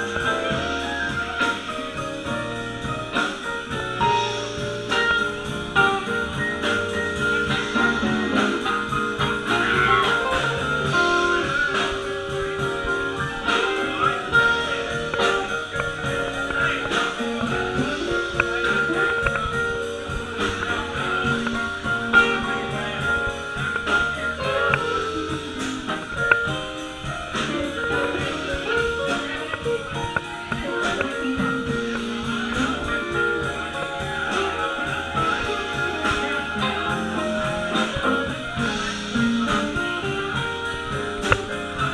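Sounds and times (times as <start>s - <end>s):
blues band music: 0.0s - 41.9s.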